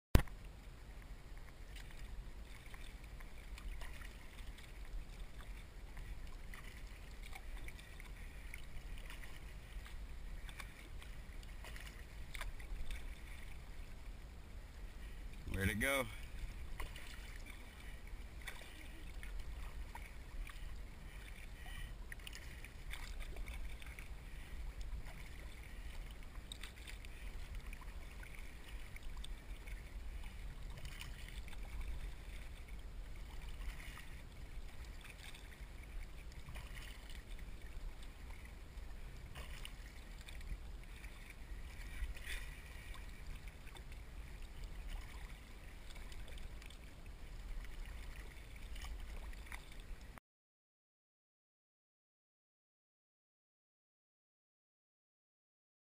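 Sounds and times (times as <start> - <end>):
kayak paddle splashing: 0.2 - 50.2
low rumble of water past hull: 0.2 - 50.2.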